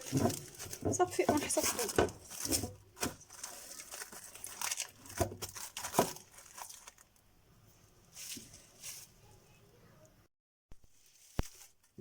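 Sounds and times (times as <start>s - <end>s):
plastic cover crinkling: 0.0s - 7.3s, 8.0s - 9.3s, 10.9s - 12.0s.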